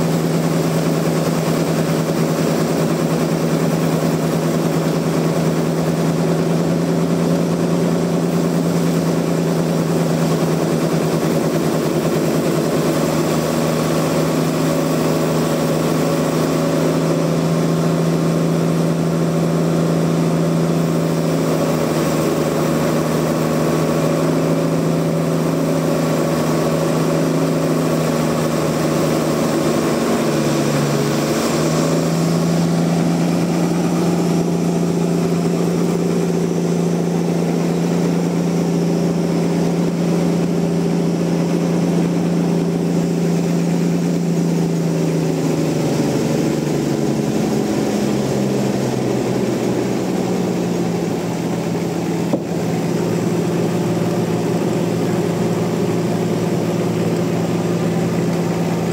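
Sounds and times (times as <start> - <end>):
sawmill machinery drone: 0.0 - 58.9.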